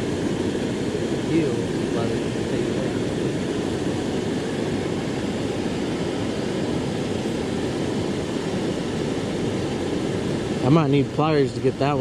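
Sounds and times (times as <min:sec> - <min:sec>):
waterfall roar: 0:00.0 - 0:12.0.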